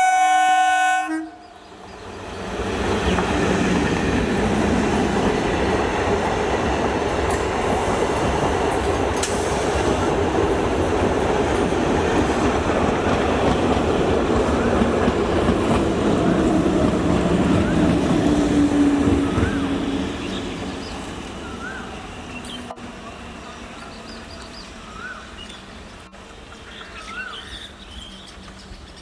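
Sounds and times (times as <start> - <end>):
train wheels rumbling on rails: 1.6 - 29.0.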